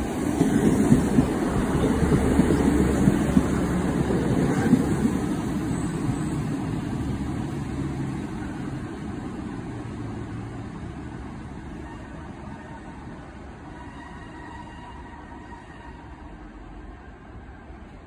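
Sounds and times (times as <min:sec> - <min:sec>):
diesel train pulling away: 0:00.0 - 0:18.0.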